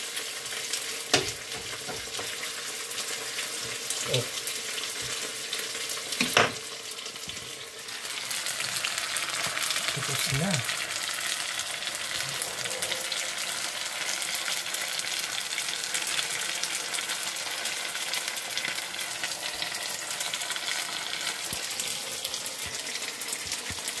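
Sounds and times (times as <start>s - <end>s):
sausage sizzling in a frying pan: 0.0s - 24.0s.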